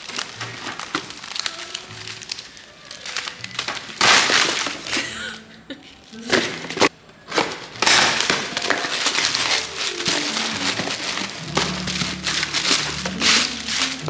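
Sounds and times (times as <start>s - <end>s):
packaging crinkling: 0.0s - 5.3s, 5.9s - 14.0s
quiet background music: 0.0s - 14.0s.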